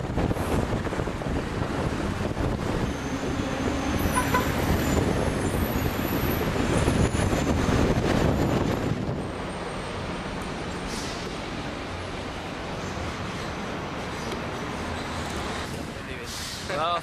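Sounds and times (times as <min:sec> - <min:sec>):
car road and engine rumble: 0:00.0 - 0:16.8.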